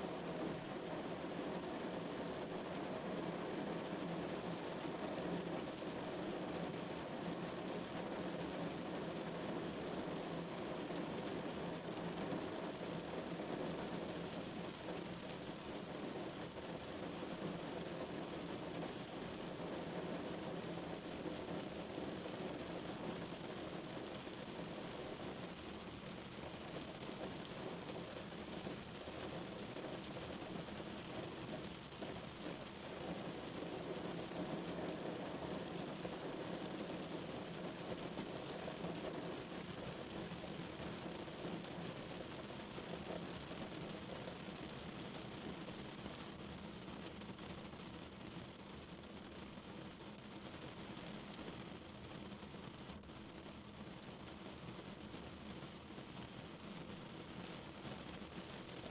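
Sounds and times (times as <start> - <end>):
rain drumming on a car: 0.0 - 58.9.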